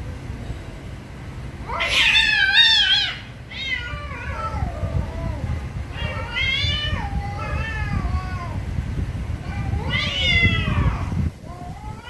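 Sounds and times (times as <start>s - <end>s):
cats yowling: 1.6s - 8.7s, 9.4s - 12.0s.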